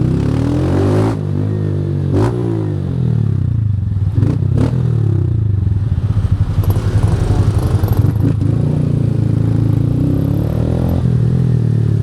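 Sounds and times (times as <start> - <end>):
motorcycle engine running hard: 0.0 - 12.0.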